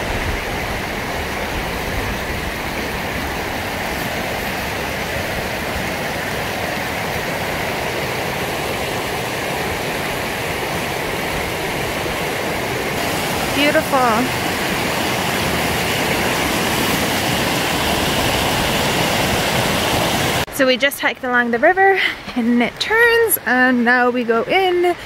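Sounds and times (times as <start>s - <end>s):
creek rushing over rocks: 0.0s - 20.5s.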